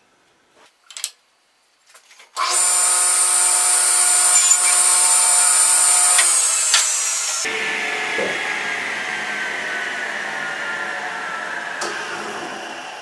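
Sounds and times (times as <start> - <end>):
power saw whining: 2.4 - 13.0.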